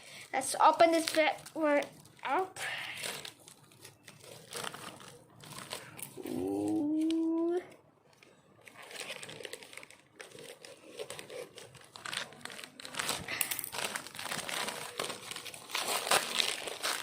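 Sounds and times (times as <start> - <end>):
packaging crinkling: 0.4 - 17.0.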